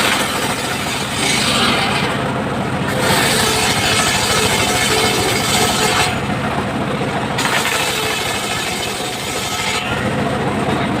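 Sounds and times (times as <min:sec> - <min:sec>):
circular saw motor humming: 0:00.0 - 0:10.5.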